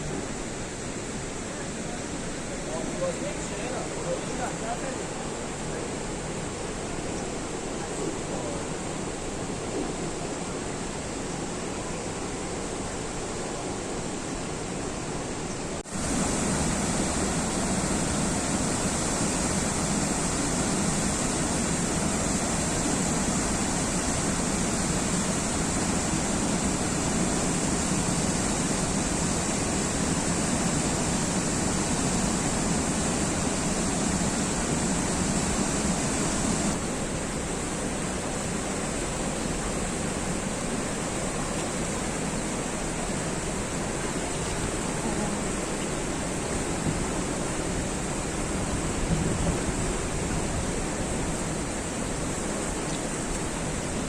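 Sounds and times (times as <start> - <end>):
water pouring down cascades: 0.0 - 54.0.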